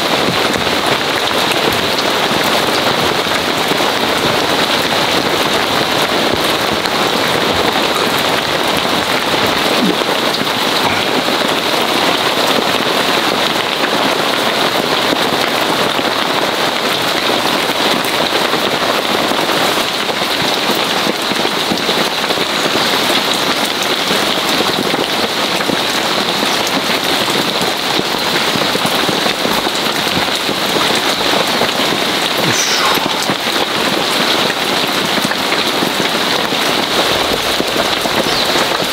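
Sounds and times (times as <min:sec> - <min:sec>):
heavy rain on a tent: 0:00.0 - 0:38.9.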